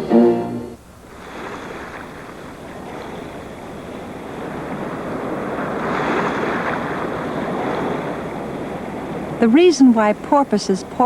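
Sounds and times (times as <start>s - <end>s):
ocean water surging: 0.0s - 11.0s.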